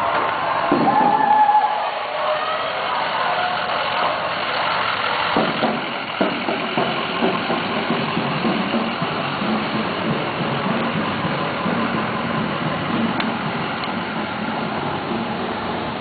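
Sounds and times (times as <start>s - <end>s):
truck engine passing: 0.0s - 16.0s.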